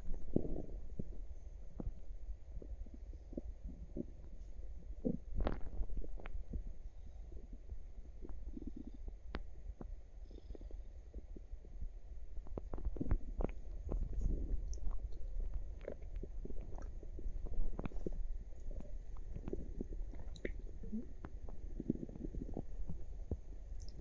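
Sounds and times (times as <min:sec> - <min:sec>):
stomach gurgling and rumbling: 0:00.0 - 0:24.0.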